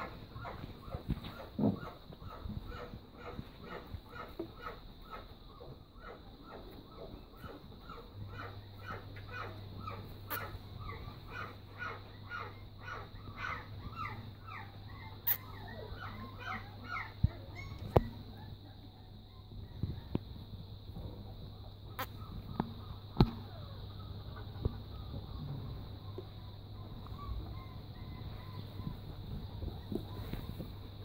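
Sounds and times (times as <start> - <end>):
puppies yelping: 0.0 - 20.2, 22.0 - 30.6.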